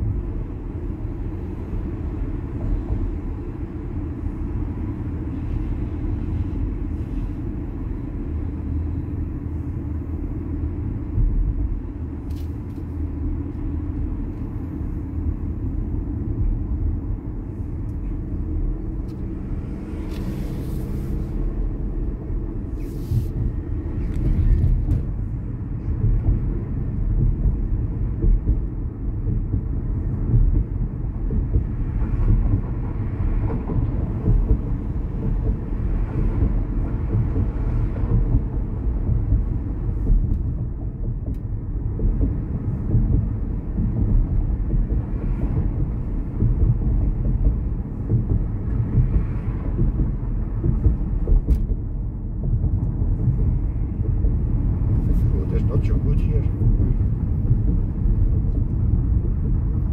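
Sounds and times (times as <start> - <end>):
road and tyre rumble inside car: 0.0 - 59.9.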